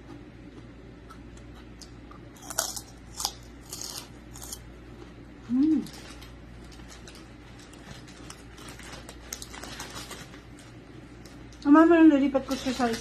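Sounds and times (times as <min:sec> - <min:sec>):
crunchy chewing of pork rinds: 0:00.0 - 0:11.6.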